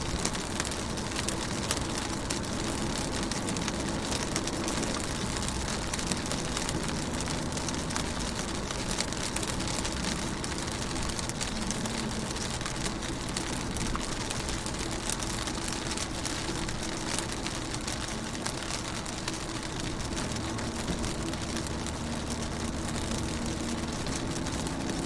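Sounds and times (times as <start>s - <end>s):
rain on car windows: 0.0s - 25.0s.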